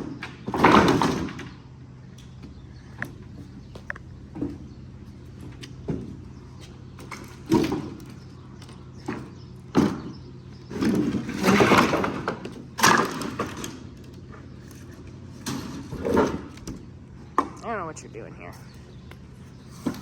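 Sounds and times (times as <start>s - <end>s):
parts rattling and clattering: 0.0s - 17.6s
low steady hum: 0.0s - 20.0s.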